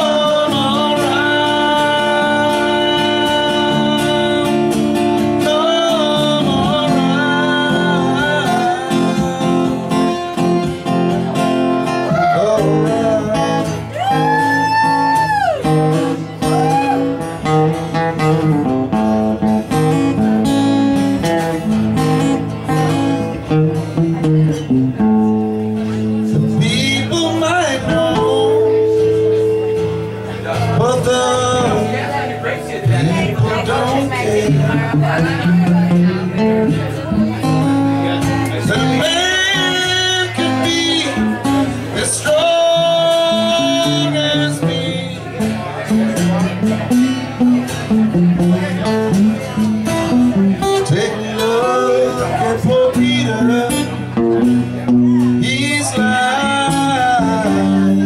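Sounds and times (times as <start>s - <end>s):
man singing: 0.0s - 20.3s, 25.7s - 46.9s, 50.3s - 58.0s
acoustic guitars playing: 0.0s - 58.0s.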